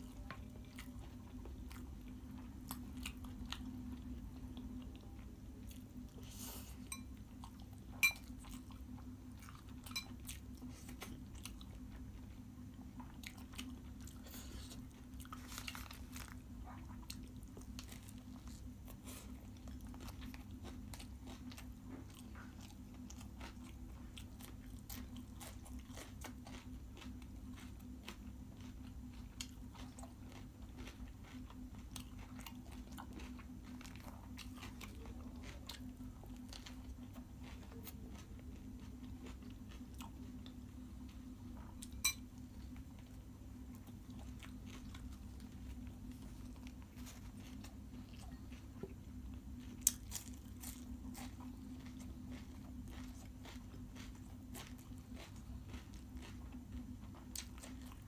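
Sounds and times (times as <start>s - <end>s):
low steady hum: 0.0s - 58.0s
person chewing food: 0.1s - 58.0s.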